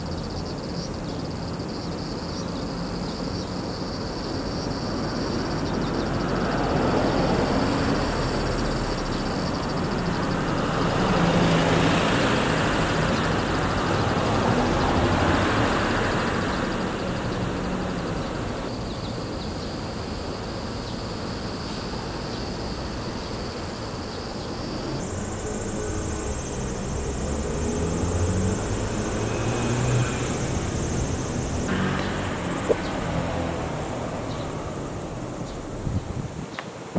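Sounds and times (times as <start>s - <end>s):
vehicles passing: 3.8s - 36.6s.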